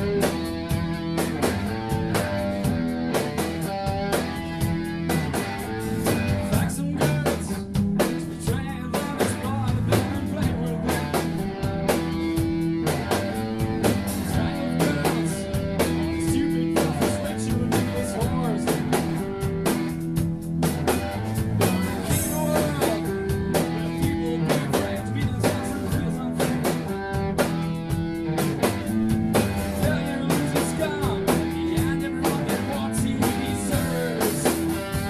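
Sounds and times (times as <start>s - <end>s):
drum kit beat: 0.0s - 35.0s
guitar: 0.0s - 35.0s
rock song: 0.0s - 35.0s.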